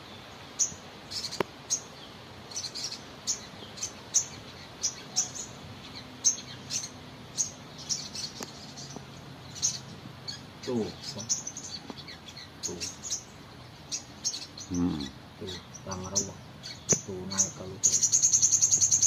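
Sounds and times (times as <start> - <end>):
bird giving sharp high chirps: 0.0 - 19.0.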